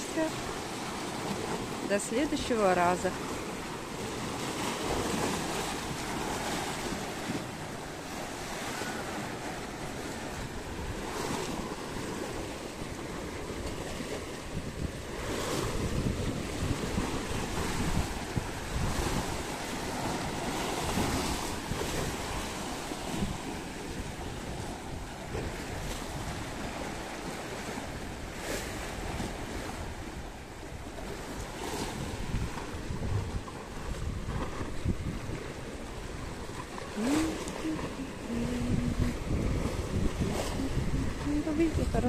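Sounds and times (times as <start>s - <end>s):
sea waves washing ashore: 0.0s - 42.0s
wind buffeting microphone: 0.0s - 42.0s.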